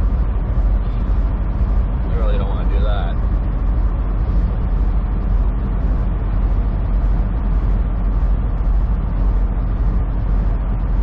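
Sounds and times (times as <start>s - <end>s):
truck engine and road drone: 0.0s - 11.0s.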